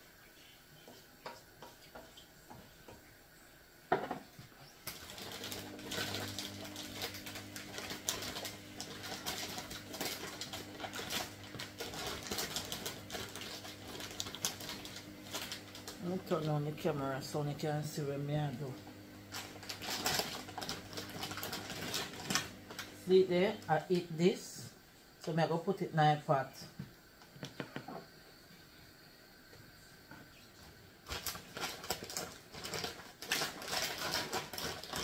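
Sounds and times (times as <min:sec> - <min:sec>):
low steady hum: 0:00.0 - 0:30.6.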